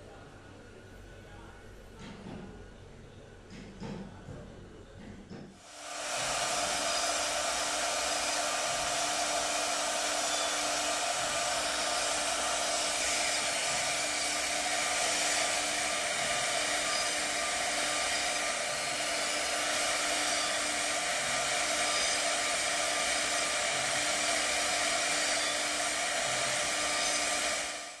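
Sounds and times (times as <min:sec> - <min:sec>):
workshop machine whirring: 0:05.3 - 0:28.0.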